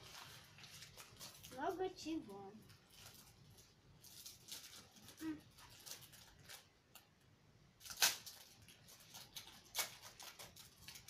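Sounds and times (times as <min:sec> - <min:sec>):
plastic packet rustling: 0:00.0 - 0:07.2, 0:07.8 - 0:11.0
sharp plastic crackle: 0:00.0 - 0:11.0.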